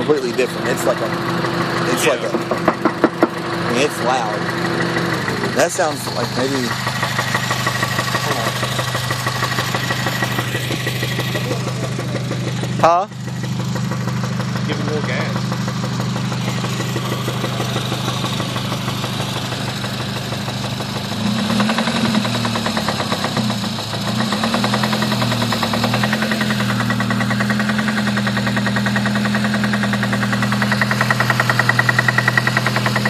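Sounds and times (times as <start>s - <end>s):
car engine knocking: 0.0s - 33.0s.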